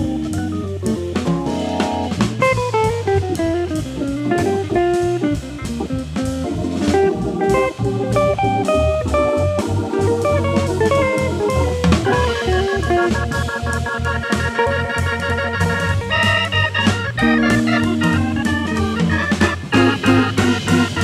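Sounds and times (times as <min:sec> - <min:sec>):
drum kit cymbal strokes: 0:00.0 - 0:21.0
organ: 0:00.0 - 0:21.0.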